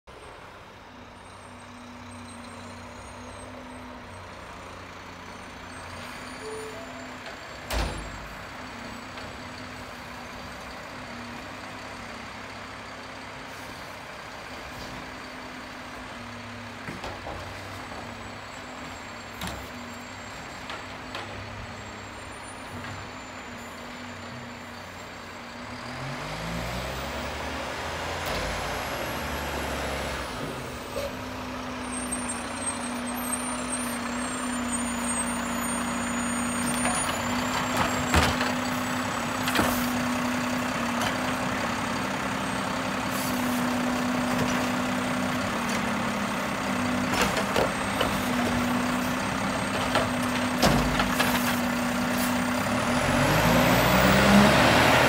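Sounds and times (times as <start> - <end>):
diesel engine humming: 0.1 - 55.0.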